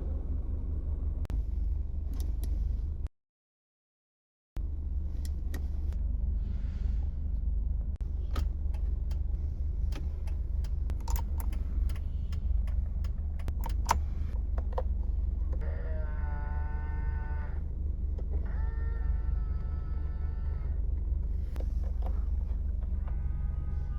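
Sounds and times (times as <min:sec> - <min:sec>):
van engine running: 0:00.0 - 0:03.1, 0:04.6 - 0:23.9.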